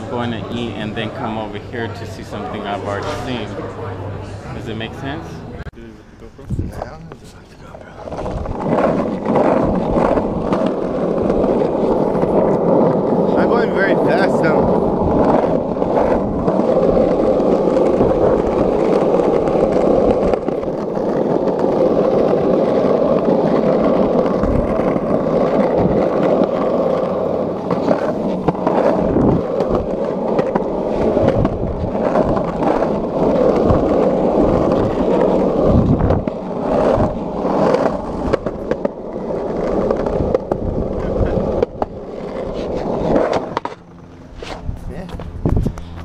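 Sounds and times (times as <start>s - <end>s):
skateboard wheels rumbling on pavement: 0.0s - 46.0s.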